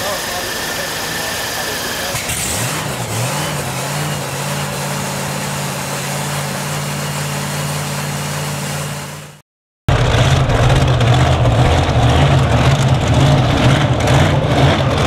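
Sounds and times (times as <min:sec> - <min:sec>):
supercharged engine idling: 0:00.0 - 0:15.0.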